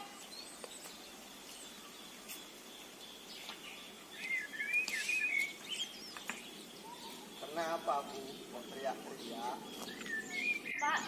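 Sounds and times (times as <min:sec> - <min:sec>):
faint outdoor background: 0:00.0 - 0:11.0
small birds twittering: 0:00.0 - 0:11.0.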